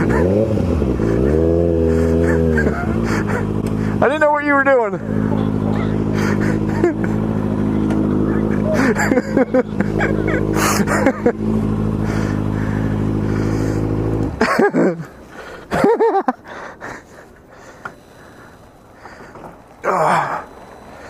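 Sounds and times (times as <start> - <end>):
motorcycle engine idling: 0.0 - 19.8.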